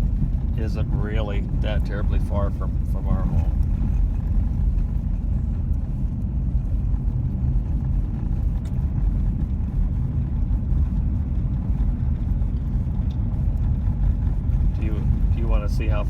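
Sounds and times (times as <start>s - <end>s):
road and engine rumble in car cabin: 0.0s - 16.0s.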